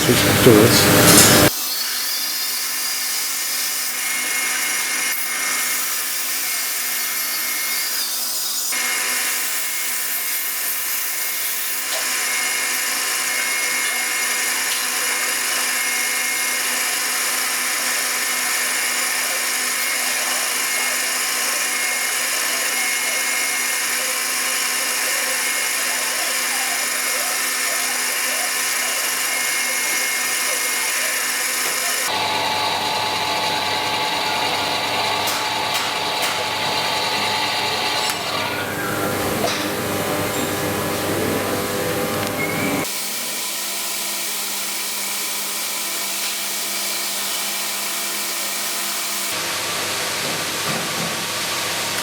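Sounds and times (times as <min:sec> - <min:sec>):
power tool motor running: 0:00.0 - 0:50.1.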